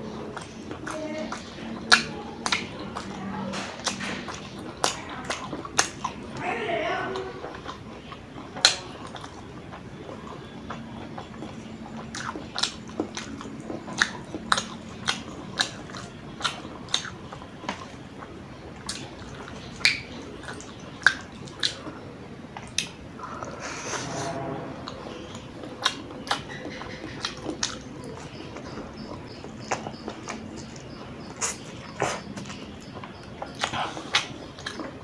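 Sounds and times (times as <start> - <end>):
person chewing noodles: 0.0 - 6.4, 7.1 - 35.0.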